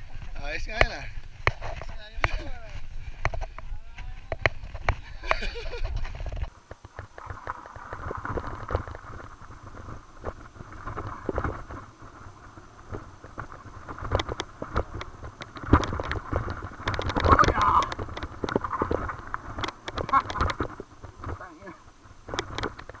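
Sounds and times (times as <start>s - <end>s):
tyres on loose ground: 0.0s - 23.0s
wind on microphone: 0.0s - 23.0s
bike rattling over bumps: 4.2s - 23.0s.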